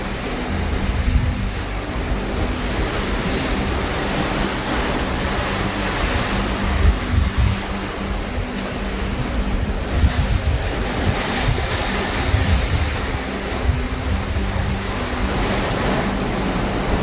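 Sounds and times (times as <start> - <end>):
low hum: 0.0 - 17.0
ocean waves rushing: 0.0 - 17.0
wind buffeting microphone: 0.0 - 17.0.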